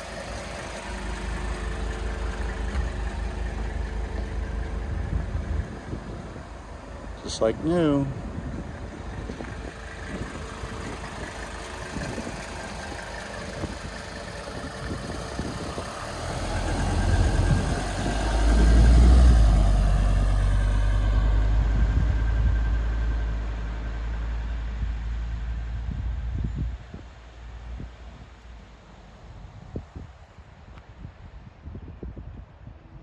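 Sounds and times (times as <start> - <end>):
diesel car idling and driving past: 0.0 - 31.1.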